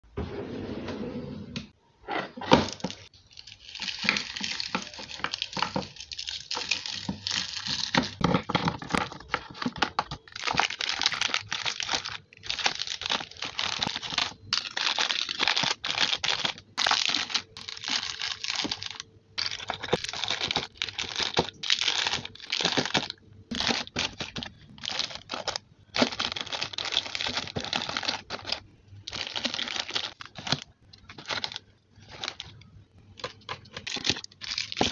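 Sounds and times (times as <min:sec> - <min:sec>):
plastic wrappers rustling: 0:02.5 - 0:34.9.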